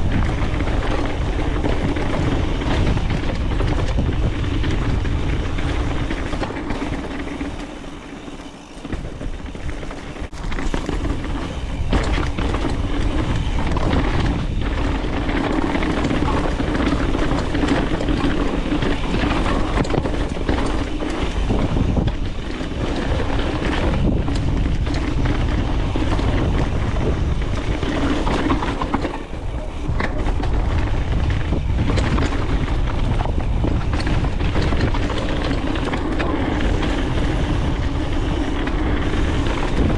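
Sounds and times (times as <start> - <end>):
bike rattling: 0.0 - 39.9
tyres rumbling over dirt and rock: 0.0 - 39.9
wind buffeting microphone: 0.0 - 39.9.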